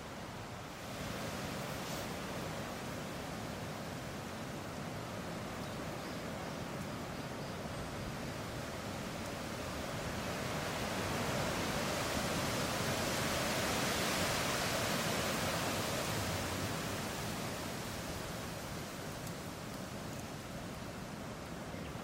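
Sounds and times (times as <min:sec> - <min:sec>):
wind rustling leaves: 0:00.0 - 0:22.0.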